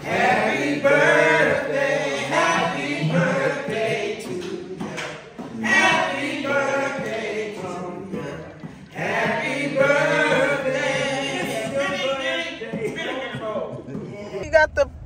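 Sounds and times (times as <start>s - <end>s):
song with sung vocals: 0.0s - 13.6s.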